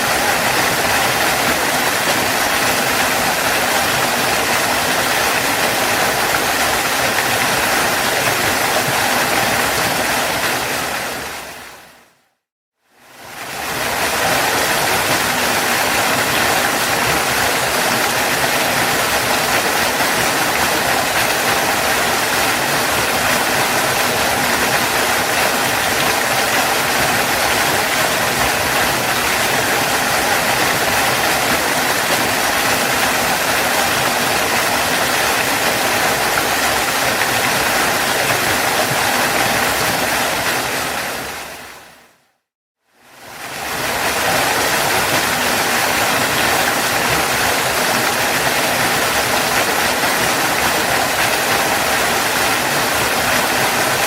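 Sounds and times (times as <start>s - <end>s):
waterfall roaring: 0.0s - 12.1s, 13.2s - 42.2s, 43.2s - 54.0s.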